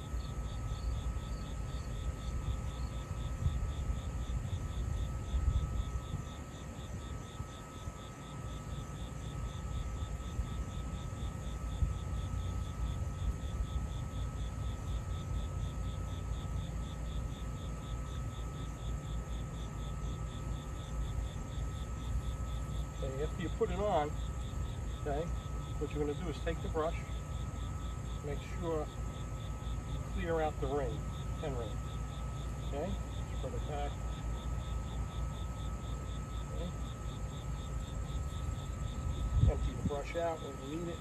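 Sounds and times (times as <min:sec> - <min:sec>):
insects chirping: 0:00.0 - 0:41.0
low rumbling background noise: 0:00.0 - 0:41.0.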